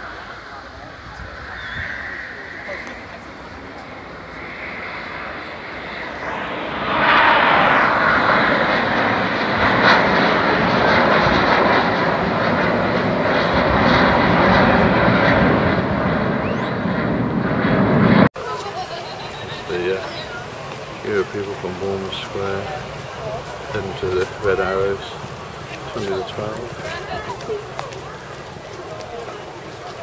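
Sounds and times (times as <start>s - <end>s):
airplane engine roar: 0.0s - 30.0s.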